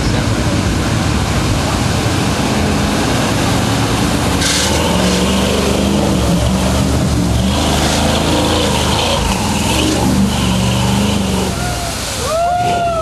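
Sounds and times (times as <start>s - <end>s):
car engine under load: 0.0s - 12.2s
water and mud splashing: 0.0s - 13.0s.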